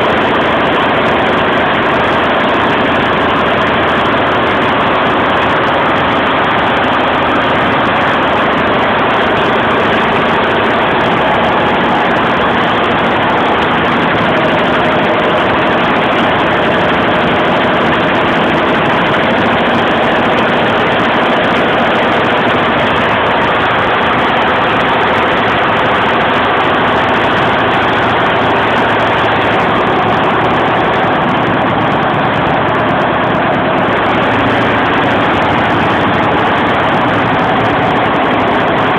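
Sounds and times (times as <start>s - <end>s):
embroidery machine clattering: 0.0s - 38.9s.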